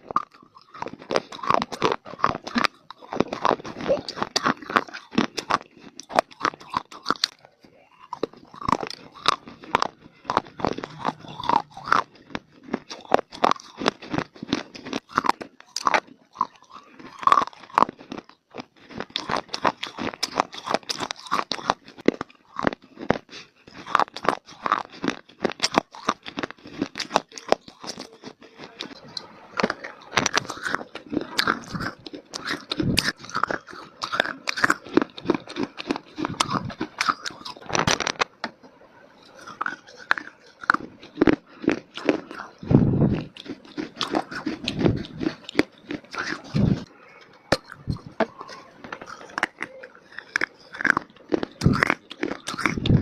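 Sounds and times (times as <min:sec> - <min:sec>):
dry clay being chewed: 0:00.0 - 0:53.0.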